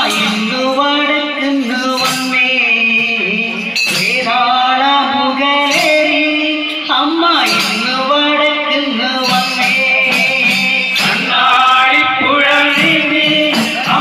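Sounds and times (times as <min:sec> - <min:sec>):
hand drums: 0:00.0 - 0:00.8, 0:01.6 - 0:14.0
people singing: 0:00.0 - 0:14.0
sharp percussion strikes: 0:00.0 - 0:14.0.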